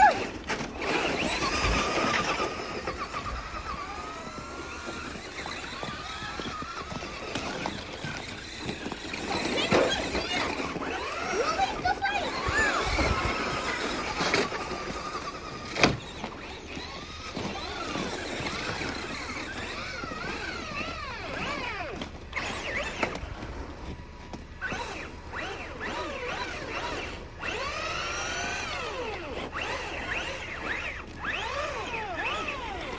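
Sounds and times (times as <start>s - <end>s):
toy truck motors whining: 0.0s - 32.9s.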